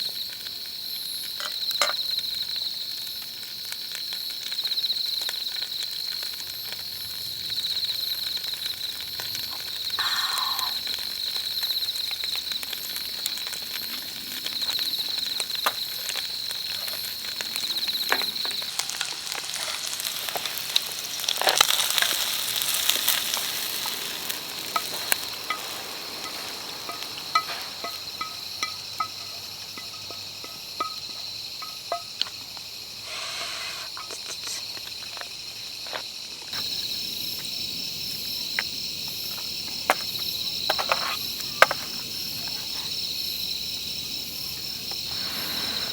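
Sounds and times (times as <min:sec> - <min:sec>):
crackles and clicks: 0:00.0 - 0:45.9
hissing sizzle: 0:00.0 - 0:45.9
insects trilling: 0:00.0 - 0:45.9.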